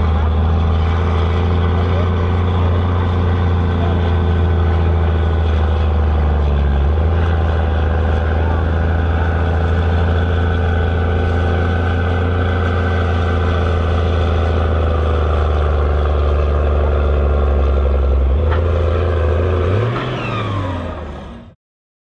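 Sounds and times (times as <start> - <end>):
tractor diesel engine at high revs: 0.0 - 21.6.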